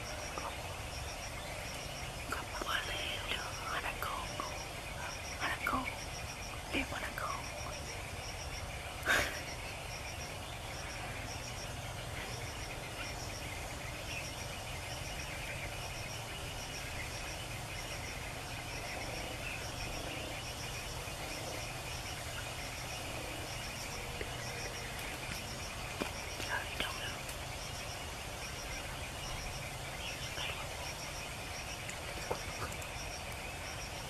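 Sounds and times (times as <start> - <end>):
steady buzzing hiss: 0.0 - 34.0.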